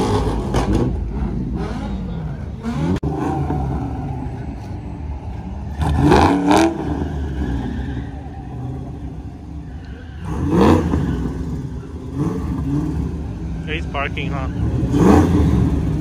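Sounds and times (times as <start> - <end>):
car engine revving: 0.0 - 4.8, 5.6 - 16.0.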